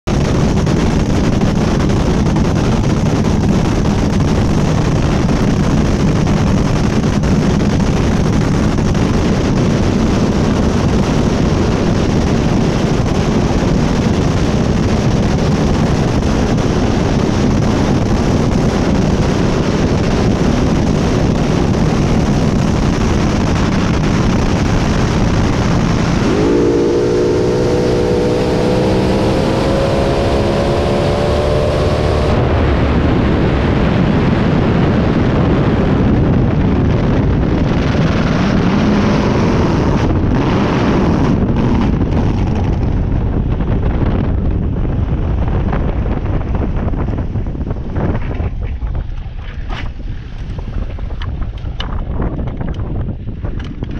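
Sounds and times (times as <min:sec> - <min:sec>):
dragster engine running rough: 0:00.0 - 0:53.9.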